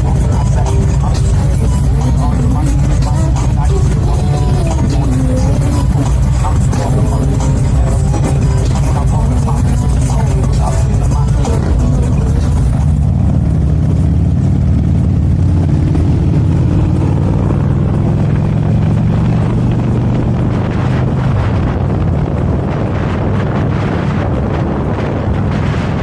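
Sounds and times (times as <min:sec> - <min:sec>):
motorcycle engine droning: 0:00.0 - 0:26.0.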